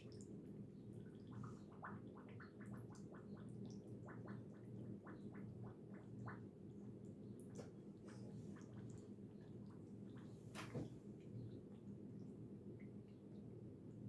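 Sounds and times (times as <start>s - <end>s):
small liquid blips: 0.0s - 13.6s
low steady hum: 0.0s - 14.0s.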